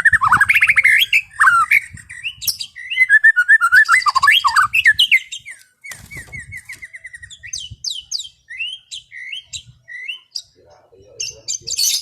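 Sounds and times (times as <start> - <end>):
bird singing whistled song: 0.0 - 10.6.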